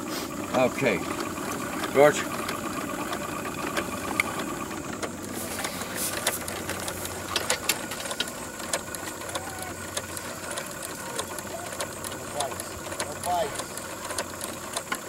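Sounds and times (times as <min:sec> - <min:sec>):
model steam engine clattering: 0:00.0 - 0:15.0
sharp clicks: 0:01.1 - 0:15.0.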